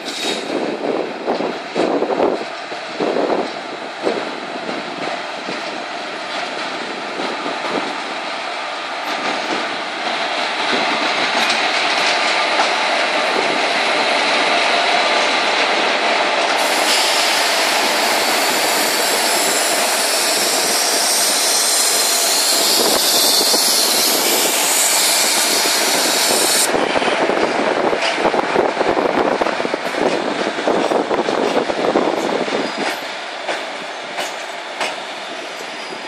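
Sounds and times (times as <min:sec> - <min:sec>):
wheels rattling on rails: 0:00.0 - 0:36.0.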